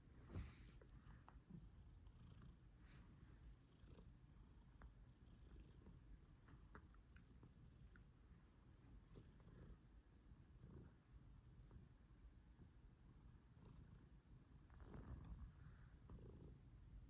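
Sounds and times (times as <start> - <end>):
cat purring: 0.1 - 17.0.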